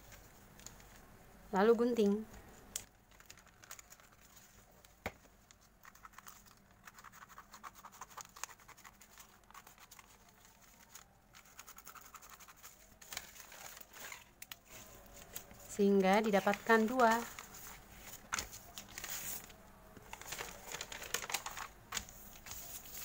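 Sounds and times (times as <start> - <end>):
paper rustle: 3.1 - 23.0.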